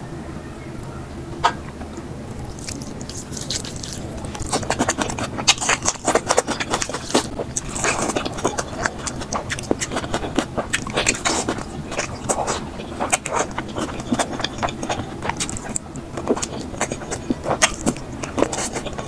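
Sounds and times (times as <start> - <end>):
person chewing and biting: 2.3 - 19.0.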